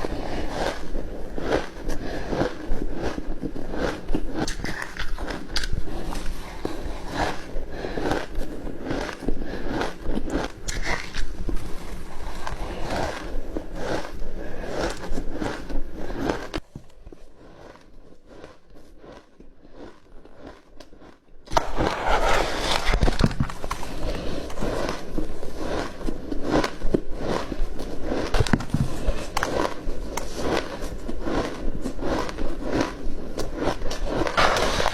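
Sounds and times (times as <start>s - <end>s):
crunching and chewing ice: 0.0s - 34.9s.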